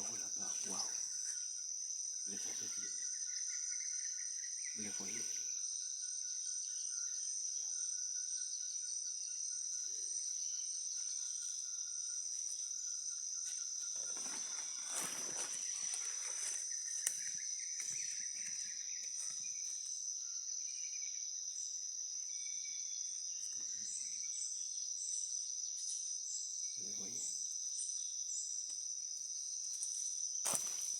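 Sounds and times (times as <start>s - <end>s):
insects droning: 0.0s - 30.9s
lower insect trill: 0.0s - 30.9s.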